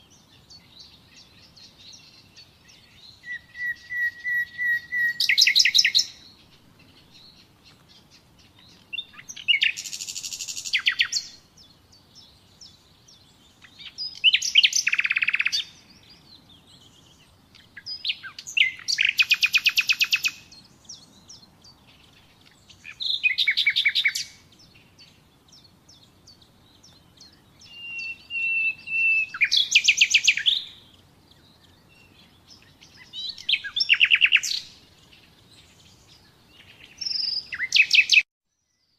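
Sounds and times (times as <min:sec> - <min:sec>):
nightingale singing trills: 0:00.0 - 0:38.9.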